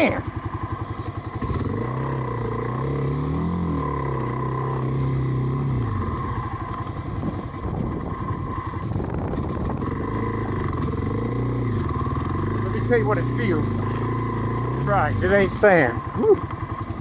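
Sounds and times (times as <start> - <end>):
motorcycle engine labouring: 0.0 - 17.0.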